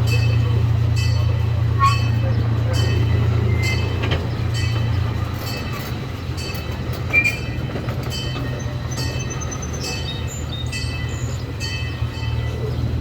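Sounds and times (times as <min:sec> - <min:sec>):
train rumbling on track: 0:00.0 - 0:13.0
wheels squeaking: 0:01.6 - 0:12.8.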